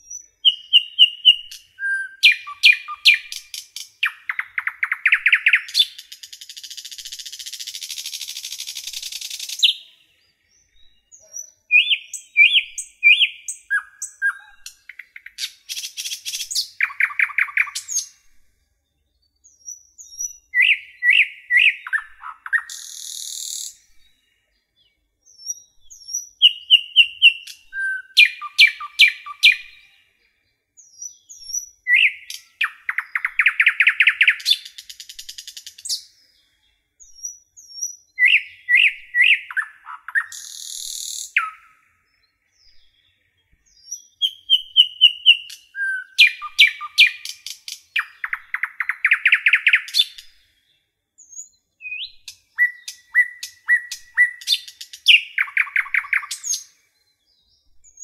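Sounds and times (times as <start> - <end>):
bird chirping and trilling: 0.0 - 18.3, 19.1 - 30.1, 30.8 - 58.0.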